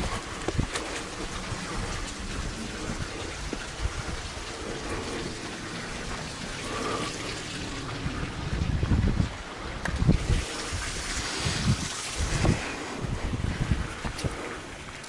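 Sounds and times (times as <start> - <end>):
wind on camera microphone: 0.0 - 15.0.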